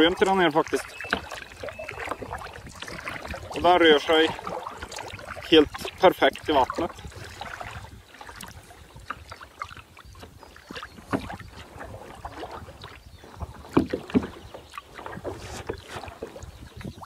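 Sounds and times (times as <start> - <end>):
kayak paddle strokes in water: 0.0 - 17.0
water splashes and drips: 0.0 - 17.0
wind rumble on microphone: 0.8 - 17.0.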